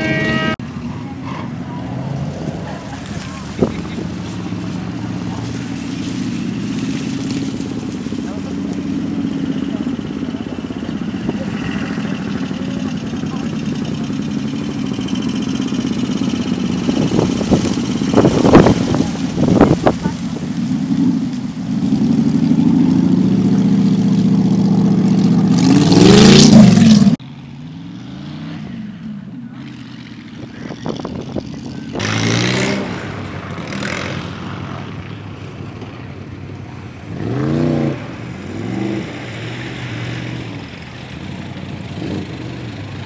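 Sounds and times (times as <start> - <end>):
hot rod engines revving: 0.0 - 43.0
open-header engine accelerating past: 0.0 - 43.0.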